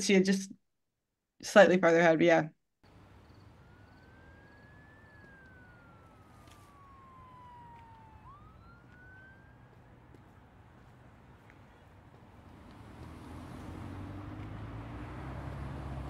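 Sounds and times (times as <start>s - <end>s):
distant siren wailing: 2.8s - 16.0s
street ambience rumble: 2.8s - 16.0s.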